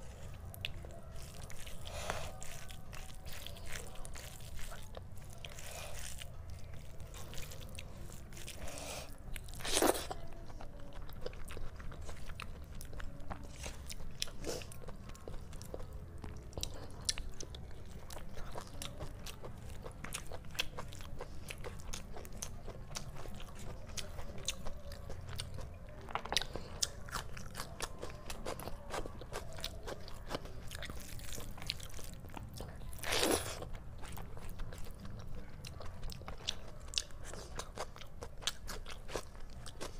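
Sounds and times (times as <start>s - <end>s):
wet chewing and mouth clicks: 0.3s - 39.9s.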